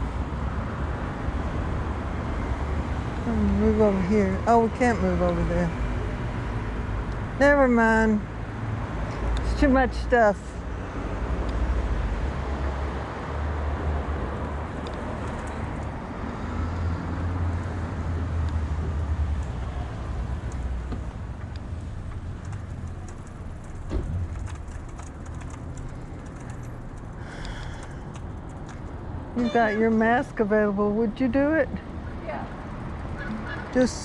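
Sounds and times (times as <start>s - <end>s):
car traffic noise: 0.0s - 34.0s.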